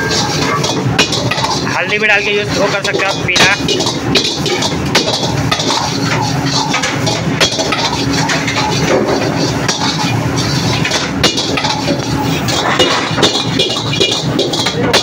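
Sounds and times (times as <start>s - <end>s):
gas burner roaring: 0.0s - 15.0s
ladle scraping a wok: 0.0s - 15.0s.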